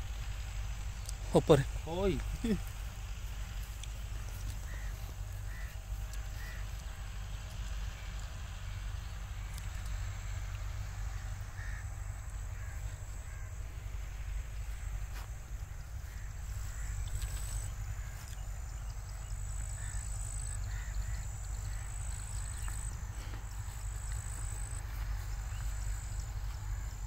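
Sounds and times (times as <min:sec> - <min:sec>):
distant bird calls: 0:00.0 - 0:27.0
steady low rumble: 0:00.0 - 0:27.0.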